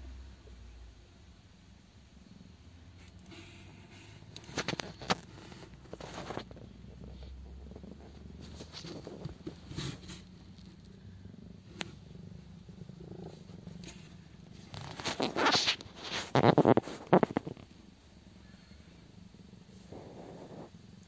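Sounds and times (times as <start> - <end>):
cat purring: 2.1 - 21.0.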